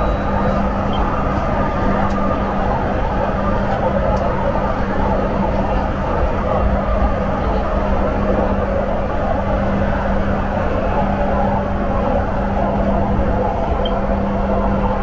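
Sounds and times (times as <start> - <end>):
constant low hum: 0.0 - 15.0
wheels rumbling on rail: 0.0 - 15.0.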